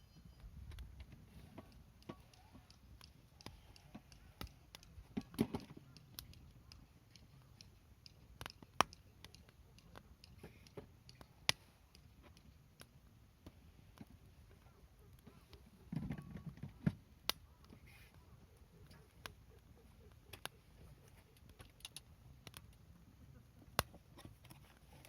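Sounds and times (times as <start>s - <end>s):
wood fire crackling: 0.1s - 25.0s.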